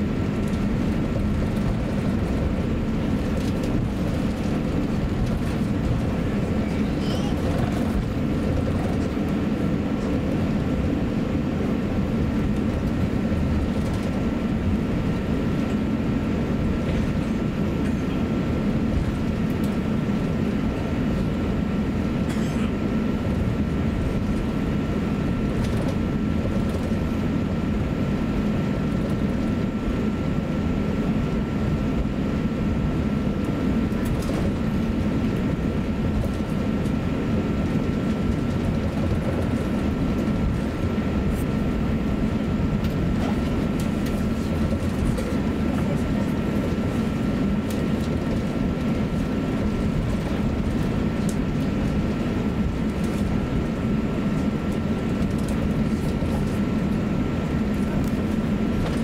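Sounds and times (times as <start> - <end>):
low engine rumble in cabin: 0.0 - 59.0
thin steady whine: 0.0 - 59.0.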